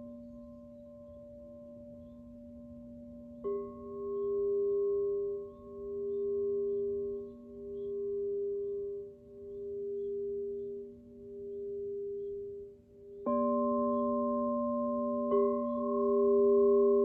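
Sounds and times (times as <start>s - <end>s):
high tinkling chimes: 0.0s - 17.0s
singing bowls ringing: 0.0s - 17.0s.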